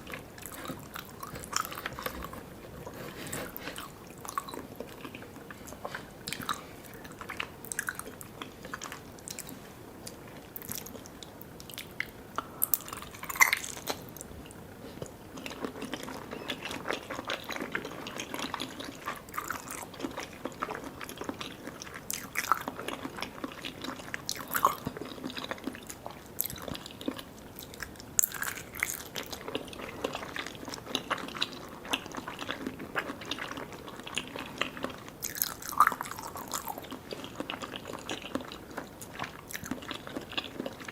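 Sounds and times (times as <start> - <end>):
chewing soft sticky food: 0.0 - 40.9.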